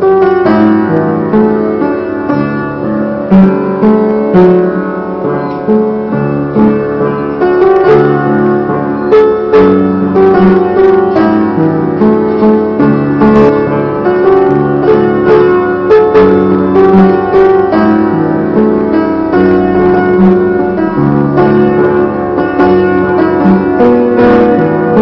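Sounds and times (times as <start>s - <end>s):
piano playing slow hymn: 0.0s - 25.0s.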